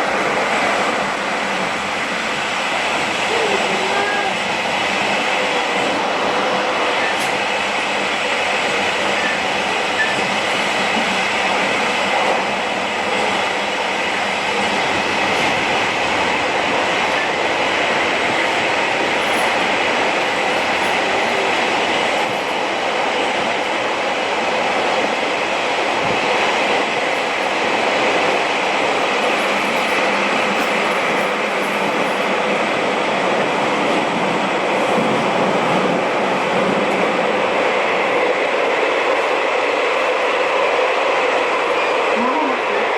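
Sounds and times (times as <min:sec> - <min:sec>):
train wheels rolling on rails: 0:00.0 - 0:42.2
train car rumble: 0:00.0 - 0:42.9.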